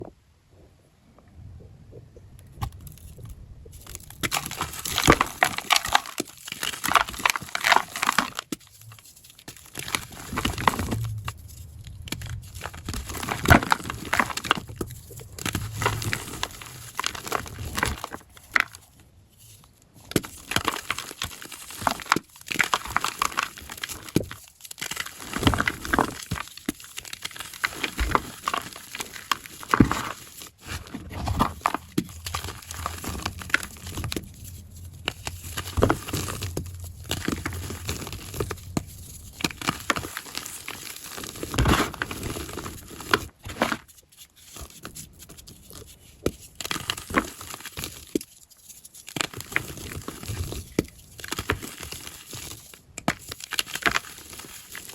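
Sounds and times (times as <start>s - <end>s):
chalk blocks crunching: 2.7s - 54.9s.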